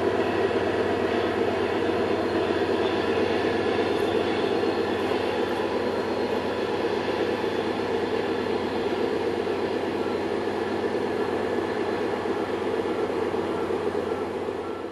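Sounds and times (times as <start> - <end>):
diesel locomotive engines running: 0.0 - 14.9.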